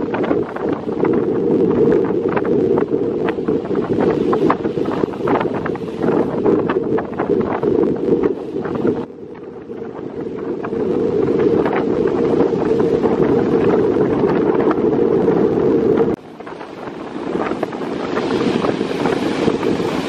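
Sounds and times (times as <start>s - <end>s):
sea surf breaking on rocks: 0.0s - 20.0s
wind buffeting microphone: 0.0s - 20.0s.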